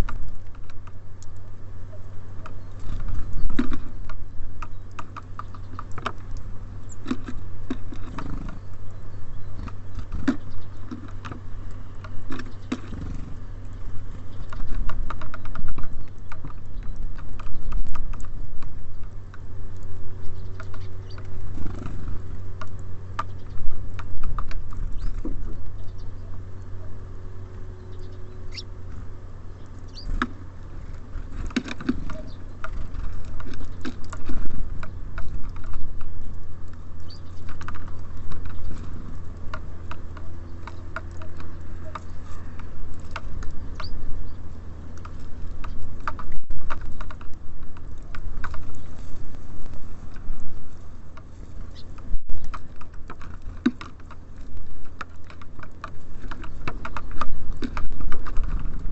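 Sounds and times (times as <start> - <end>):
birds pecking at seed: 0.0 - 58.9
steady low rumble: 0.0 - 58.9.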